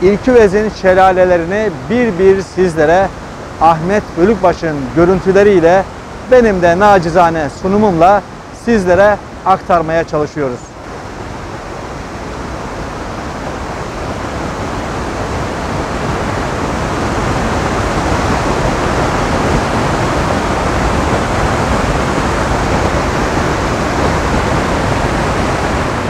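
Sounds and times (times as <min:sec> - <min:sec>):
waterfall rushing into pool: 0:00.0 - 0:26.0.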